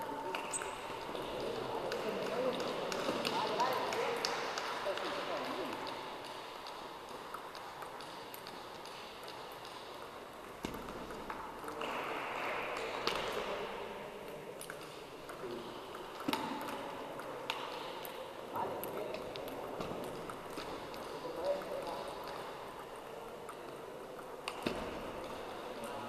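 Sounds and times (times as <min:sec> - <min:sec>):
table tennis ball ticking: 0:00.0 - 0:12.0, 0:12.8 - 0:26.0
murmur of sports hall: 0:00.0 - 0:26.0.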